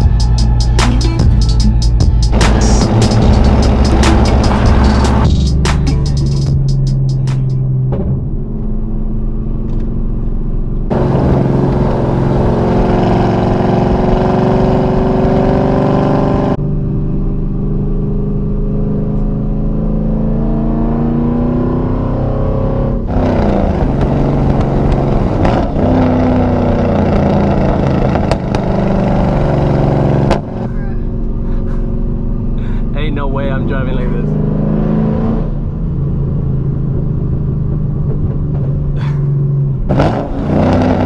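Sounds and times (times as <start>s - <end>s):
car engine accelerating through gears: 0.0s - 41.0s.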